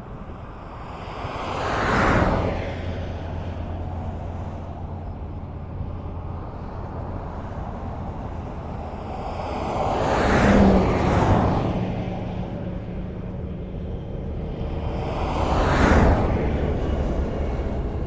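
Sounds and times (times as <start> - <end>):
low engine hum: 0.0 - 18.0
vehicle passing by: 1.2 - 18.0.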